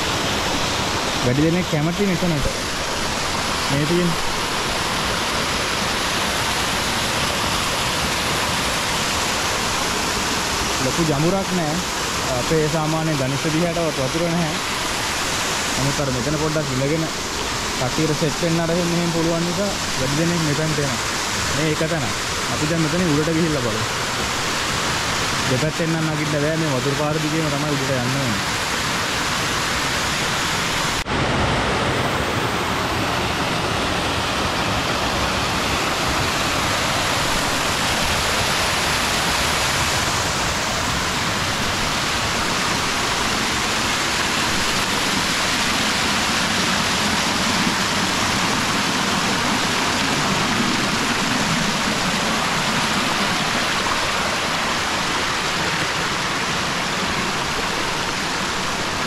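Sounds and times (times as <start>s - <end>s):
waterfall running: 0.0s - 59.0s.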